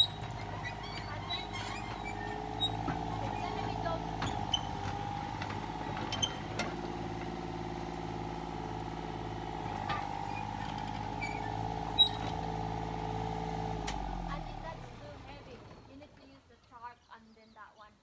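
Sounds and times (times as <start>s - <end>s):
engine running steadily: 0.0s - 17.6s.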